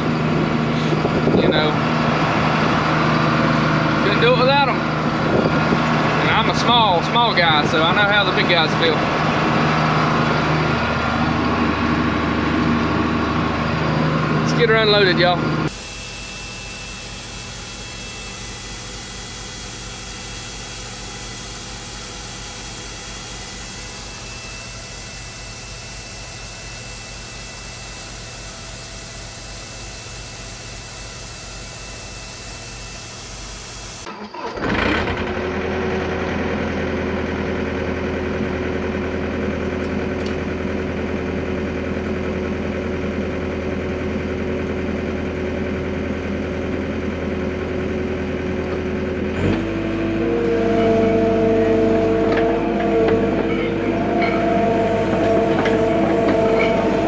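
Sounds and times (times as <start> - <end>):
engine-driven machine humming: 0.0 - 57.0
tractor engine running: 0.0 - 57.0.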